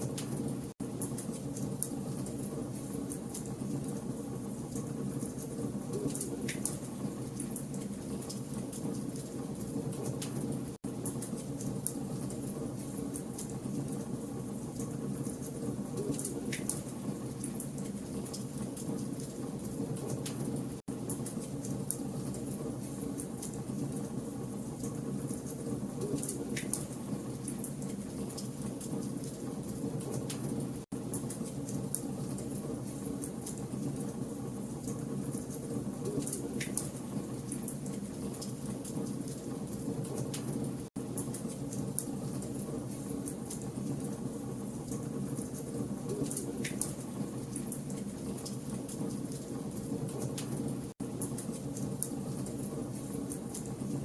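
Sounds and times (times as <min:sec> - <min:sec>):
low rumble of flames: 0:00.0 - 0:54.0.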